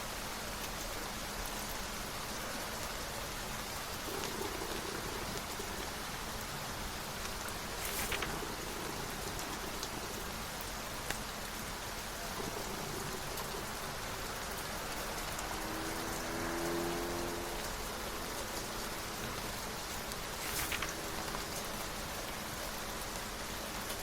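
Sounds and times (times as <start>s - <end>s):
rain falling on a surface: 0.0s - 24.0s.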